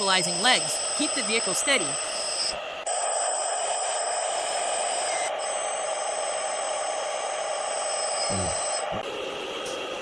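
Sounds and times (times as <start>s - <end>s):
mechanical whirring with whine: 0.0s - 10.0s.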